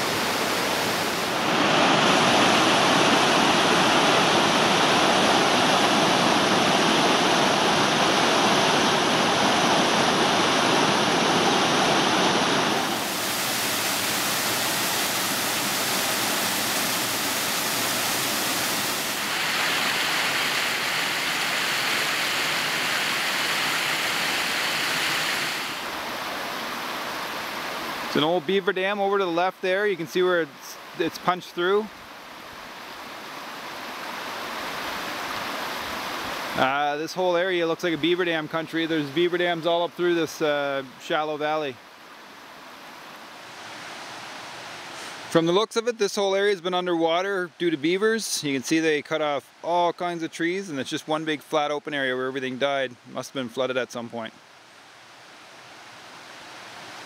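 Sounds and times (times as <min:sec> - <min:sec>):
waterfall rushing: 0:00.0 - 0:46.6.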